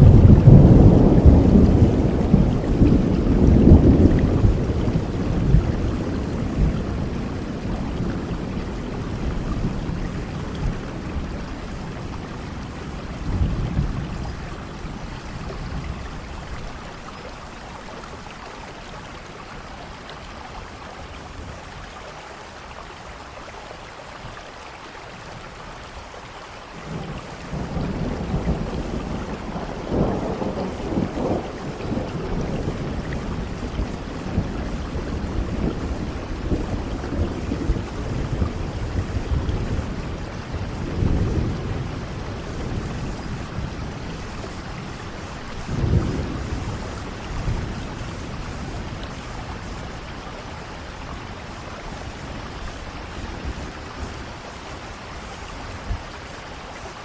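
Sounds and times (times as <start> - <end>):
thunder rumbling: 0.0 - 19.8, 26.8 - 56.3
steady rain: 0.0 - 57.0.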